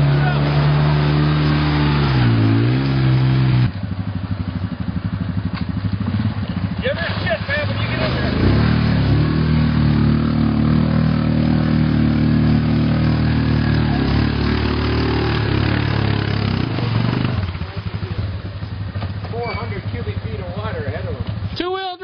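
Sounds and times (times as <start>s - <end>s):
atv engine running hard: 0.0s - 21.6s.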